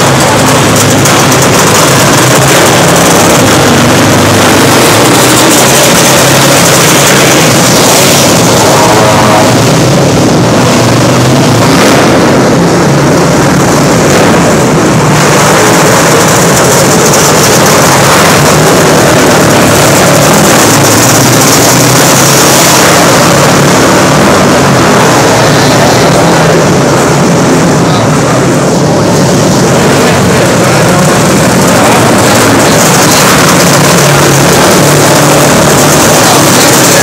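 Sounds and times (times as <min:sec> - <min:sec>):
atv engines: 0:00.0 - 0:37.0
racing kart engines: 0:00.0 - 0:37.0.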